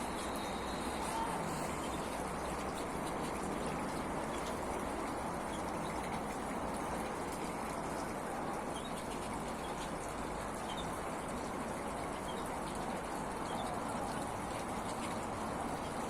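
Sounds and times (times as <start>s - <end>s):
waterfall and fountain splashing: 0.0s - 16.0s.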